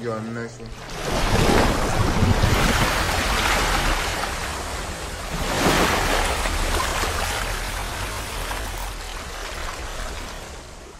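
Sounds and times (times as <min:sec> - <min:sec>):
rushing crashing water: 0:00.7 - 0:10.9.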